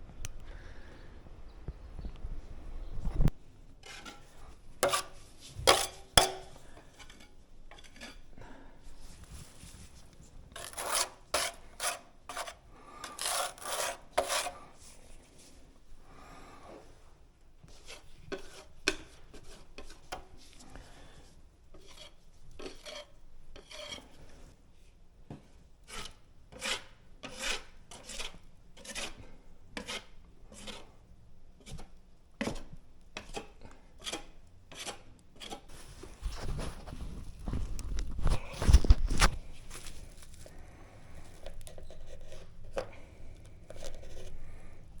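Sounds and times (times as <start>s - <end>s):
scraping on a hard surface: 3.1s - 15.6s, 17.7s - 21.0s, 21.7s - 24.5s, 25.9s - 31.0s, 31.6s - 44.6s.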